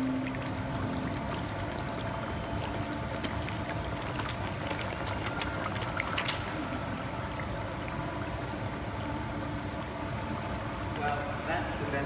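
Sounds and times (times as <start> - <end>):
fish splashing and slurping: 0.0 - 11.5.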